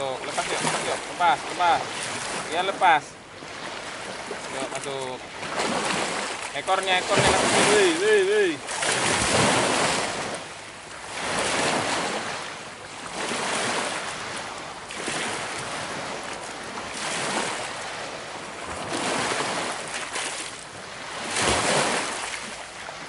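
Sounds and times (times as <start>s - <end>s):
waves washing onto rocky shore: 0.0s - 10.5s, 11.1s - 23.0s.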